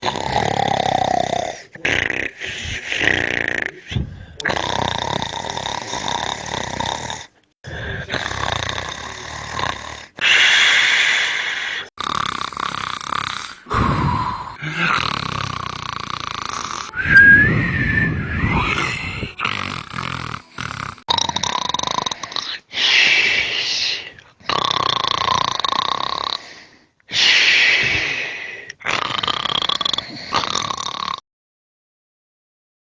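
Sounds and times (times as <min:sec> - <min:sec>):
man snoring: 0:00.0 - 0:17.0, 0:18.6 - 0:22.6, 0:24.5 - 0:26.5, 0:27.8 - 0:31.2.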